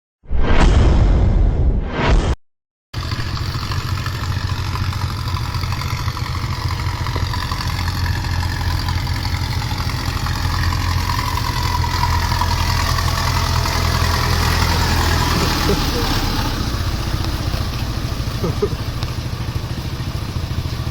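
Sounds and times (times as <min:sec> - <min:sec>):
heavy machine engine idling: 0:03.0 - 0:20.9.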